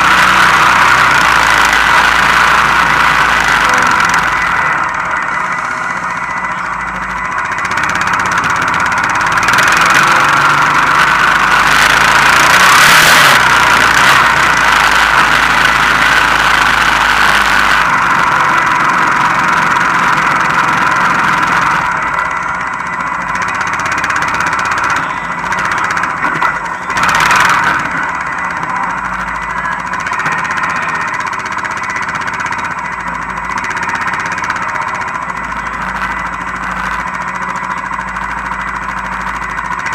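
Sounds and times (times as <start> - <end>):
atv engine droning: 0.0 - 39.9
rushing noise: 0.0 - 39.9.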